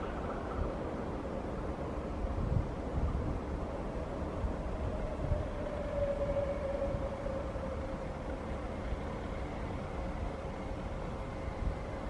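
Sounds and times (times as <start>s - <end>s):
approaching train rumble: 0.0s - 12.0s
wind buffeting microphone: 0.0s - 12.0s.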